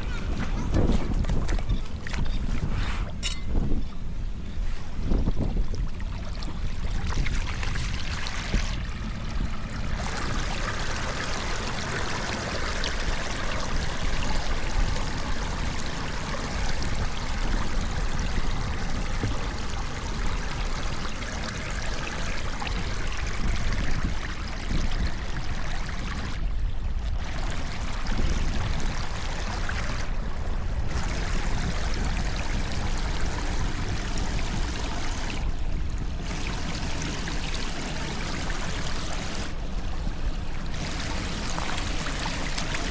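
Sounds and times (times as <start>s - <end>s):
water pouring into storm drain: 5.0s - 26.4s, 27.2s - 30.2s, 30.8s - 35.5s, 36.2s - 39.6s, 40.6s - 42.9s.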